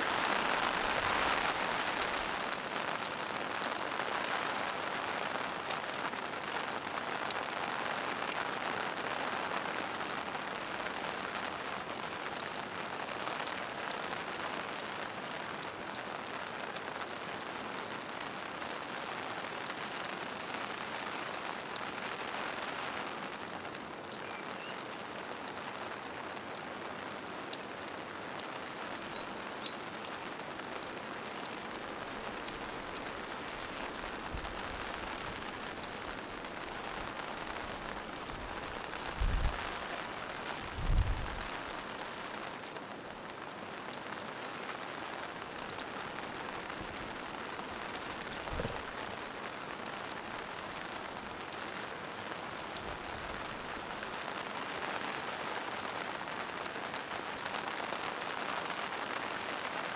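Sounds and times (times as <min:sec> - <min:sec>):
rain dripping on leaves: 0:00.0 - 0:59.9.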